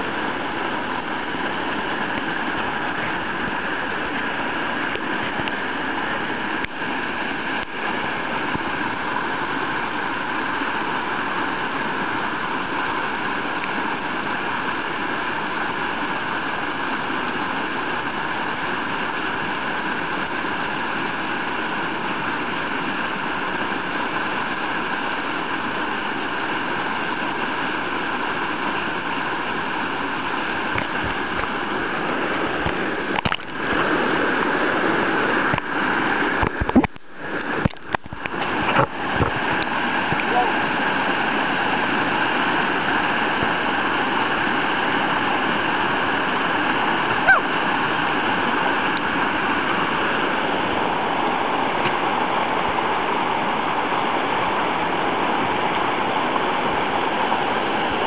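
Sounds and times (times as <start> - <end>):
whitewater rushing: 0.0 - 58.0.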